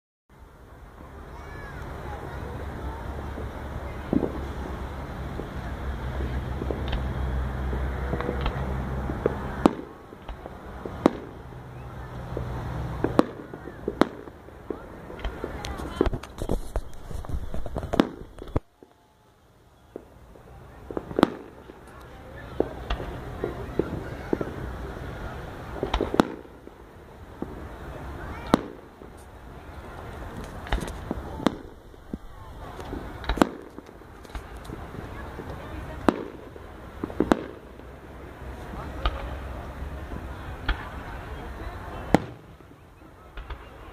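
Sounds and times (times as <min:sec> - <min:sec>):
firework pops and crackles: 0:00.9 - 0:19.1, 0:19.9 - 0:43.9
fireworks bangs: 0:00.9 - 0:19.1, 0:19.8 - 0:43.9.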